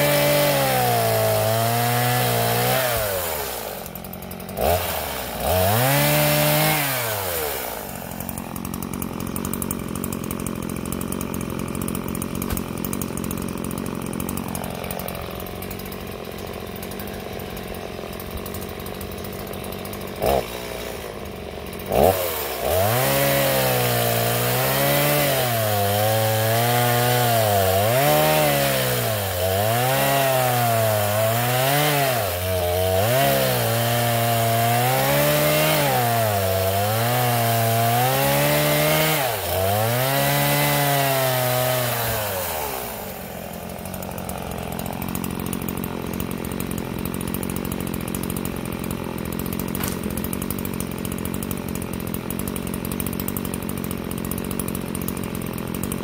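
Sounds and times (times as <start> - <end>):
chainsaw cutting at full throttle: 0.0 - 56.0.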